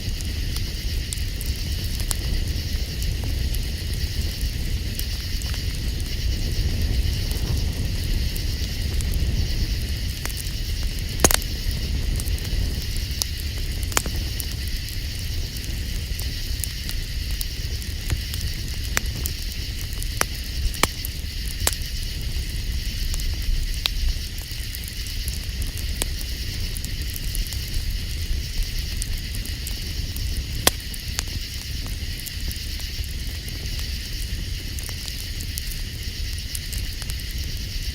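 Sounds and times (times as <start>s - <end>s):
steady low rumble: 0.0s - 37.8s
campfire crackling and popping: 0.0s - 37.9s.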